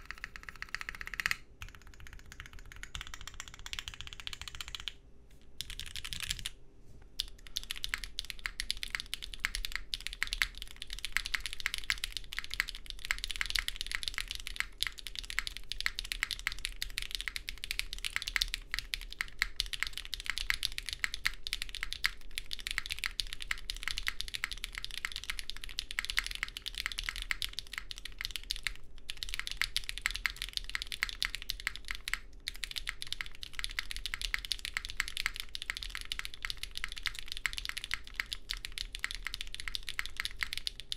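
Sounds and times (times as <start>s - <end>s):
mechanical keyboard typing: 0.0s - 5.0s, 5.6s - 6.5s, 7.2s - 40.9s.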